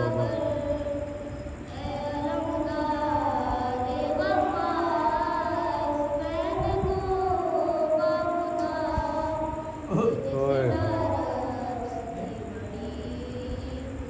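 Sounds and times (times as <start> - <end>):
boy chanting a lament: 0.0 - 14.0.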